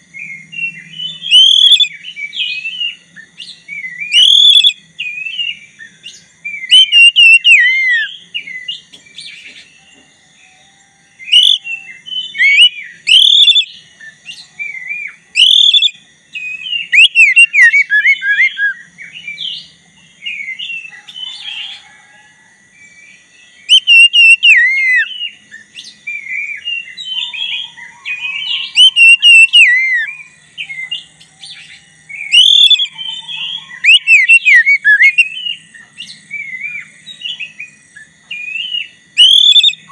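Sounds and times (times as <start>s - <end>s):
magpie-robin singing: 0.2s - 9.7s, 11.2s - 21.3s, 23.6s - 39.9s.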